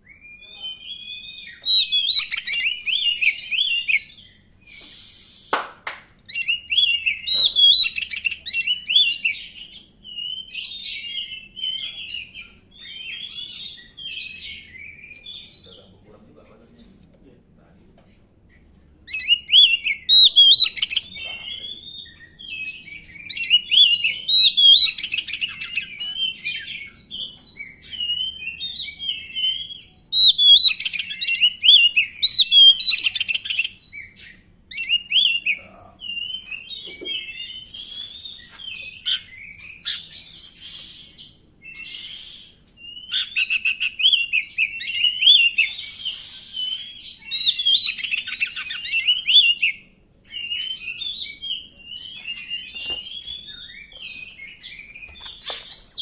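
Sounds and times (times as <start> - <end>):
bird singing whistled song: 0.0 - 5.6, 6.3 - 15.9, 19.1 - 56.0.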